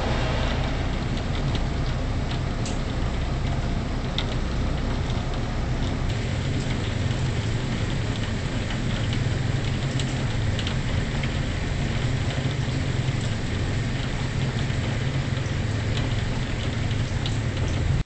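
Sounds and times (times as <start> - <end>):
heavy rain pouring: 0.0 - 18.0
raindrops ticking: 0.6 - 18.0.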